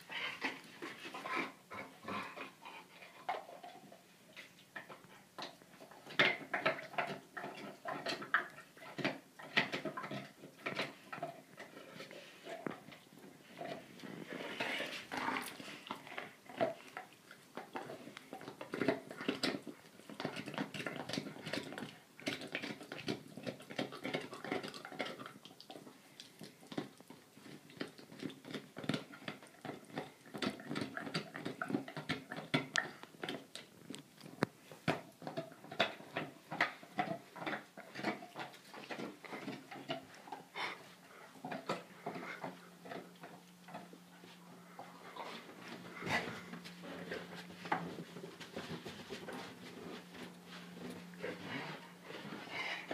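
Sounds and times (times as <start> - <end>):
dog chewing on a bone: 0.0 - 52.9.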